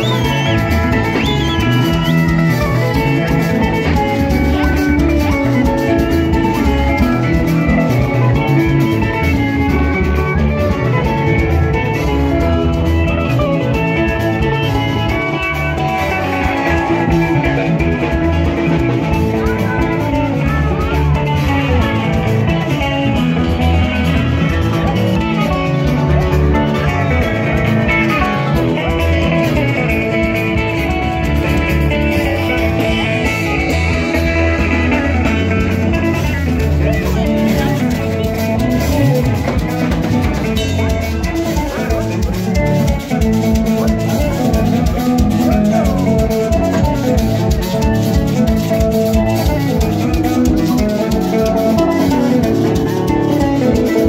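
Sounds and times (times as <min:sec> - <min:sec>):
guitar playing lead lines: 0:00.0 - 0:54.0
steady drum beat: 0:00.0 - 0:54.0.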